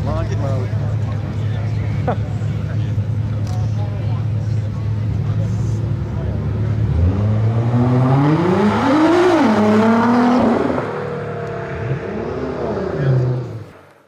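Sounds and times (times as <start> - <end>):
car engine revving: 2.6 - 14.0.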